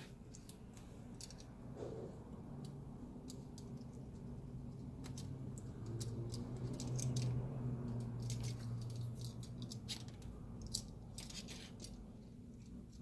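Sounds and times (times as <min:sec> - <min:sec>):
low steady hum: 0:00.0 - 0:13.0
tools clicking and tapping: 0:02.6 - 0:13.0.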